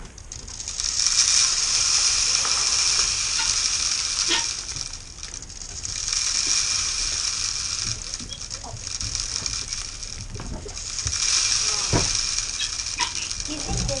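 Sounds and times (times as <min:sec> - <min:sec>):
grain pouring into feeder: 0:00.0 - 0:14.0.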